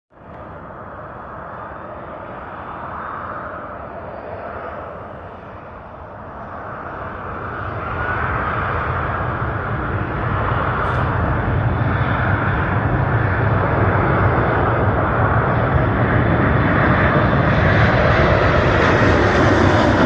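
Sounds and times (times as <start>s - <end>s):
jet engine rumble and whine: 0.1s - 20.0s.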